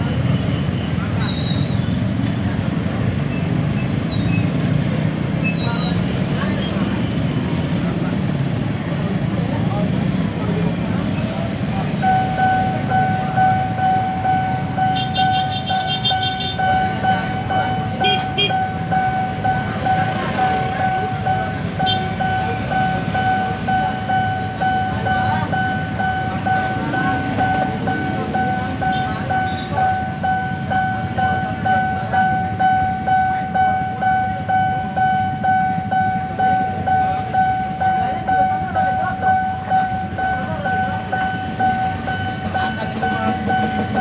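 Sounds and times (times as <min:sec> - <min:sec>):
road traffic: 0:00.0 - 0:44.0
electric train rumble: 0:06.1 - 0:44.0
level crossing warning bell ringing: 0:07.0 - 0:44.0.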